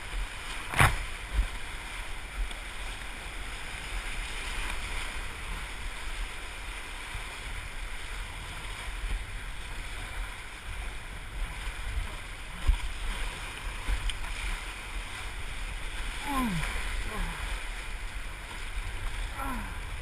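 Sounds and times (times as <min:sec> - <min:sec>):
whitewater rushing and splashing: 0:00.0 - 0:20.0
wind rumble on microphone: 0:00.0 - 0:20.0.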